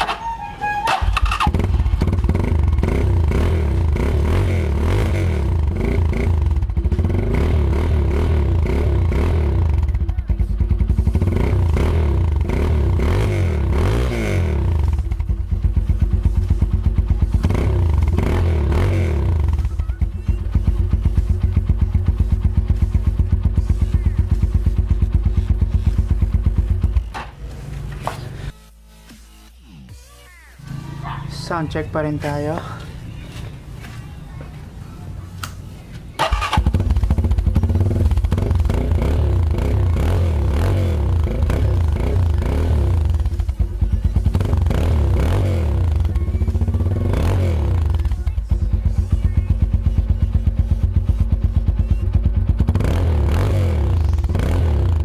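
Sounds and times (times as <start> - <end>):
motorcycle engine revving: 0.8 - 27.7, 36.2 - 55.0.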